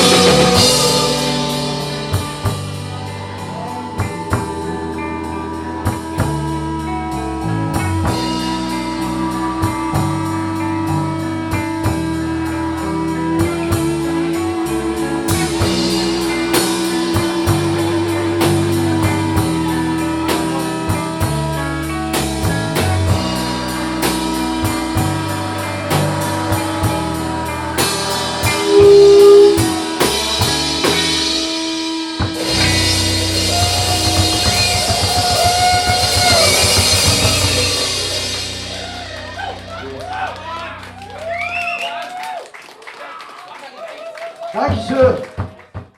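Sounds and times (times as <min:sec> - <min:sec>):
rock band playing: 0:00.0 - 0:42.2.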